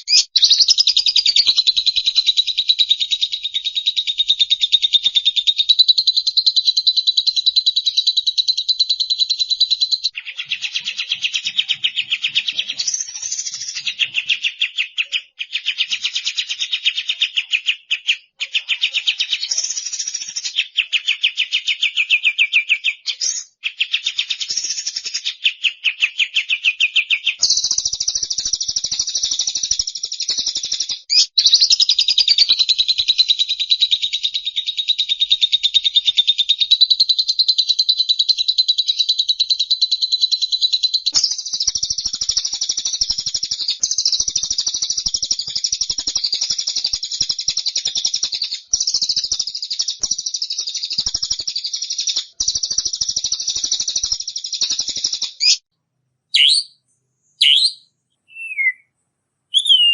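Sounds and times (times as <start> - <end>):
songbird singing rapid notes: 0.0 - 55.7, 56.3 - 59.9.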